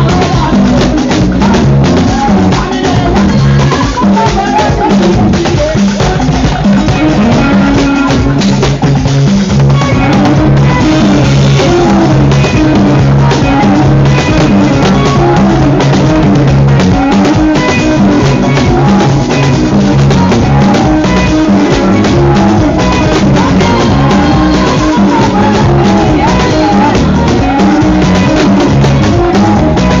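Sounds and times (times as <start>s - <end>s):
loud dull music with drum beat: 0.0s - 30.0s.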